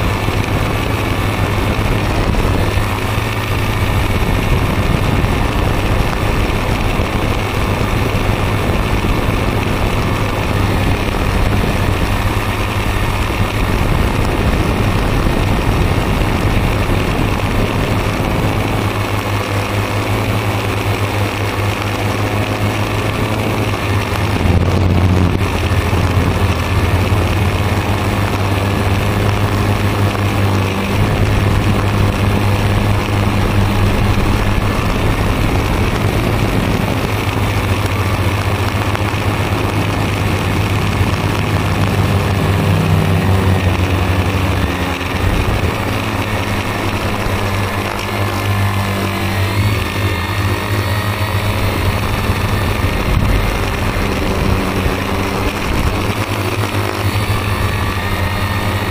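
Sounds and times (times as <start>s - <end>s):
drone propellers buzzing: 0.0s - 58.9s.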